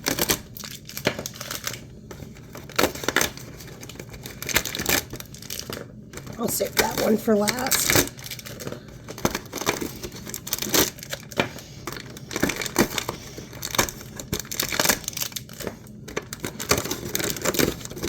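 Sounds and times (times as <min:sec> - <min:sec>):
plastic packaging crinkling and tearing: 0:00.0 - 0:18.0.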